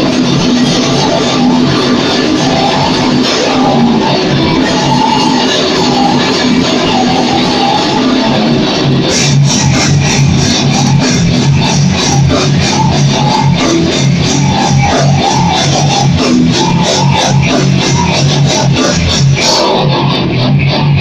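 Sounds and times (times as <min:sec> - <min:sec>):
distorted electric guitar: 0:00.0 - 0:21.0
drum kit: 0:00.0 - 0:21.0.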